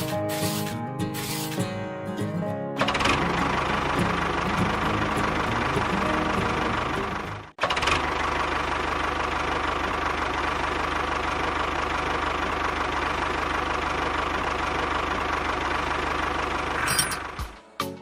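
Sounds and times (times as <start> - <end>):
tractor engine idling: 2.8 - 17.6.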